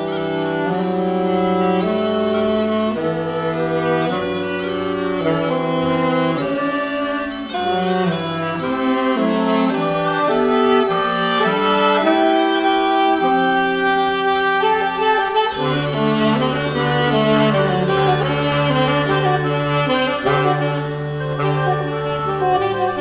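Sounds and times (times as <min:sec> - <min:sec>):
low steady drone note: 0:00.0 - 0:23.0
saxophone quartet playing chords: 0:00.0 - 0:23.0
smallpipes playing: 0:00.0 - 0:23.0.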